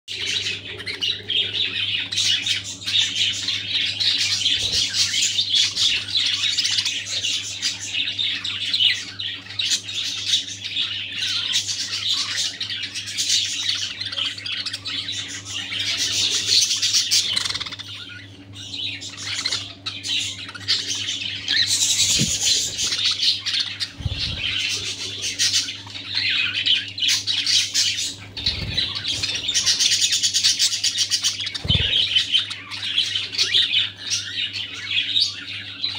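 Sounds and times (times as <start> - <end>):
budgerigars chattering and chirping: 0.1 - 35.9
low steady hum: 0.1 - 35.9.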